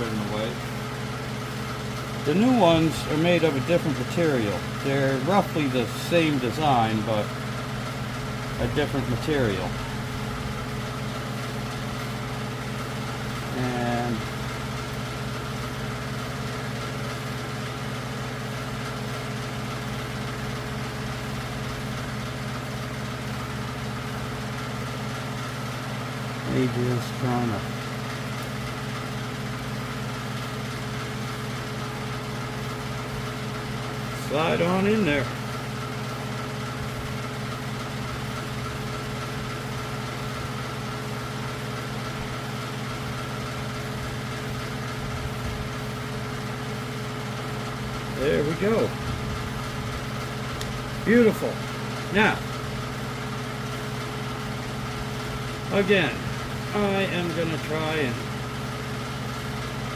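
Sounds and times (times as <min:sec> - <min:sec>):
motor humming: 0:00.0 - 0:59.9.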